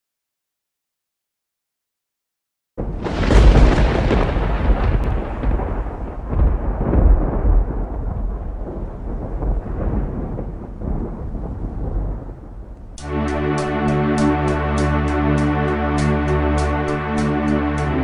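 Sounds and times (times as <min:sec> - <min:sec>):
thunder rolling rumble: 0:02.8 - 0:18.0.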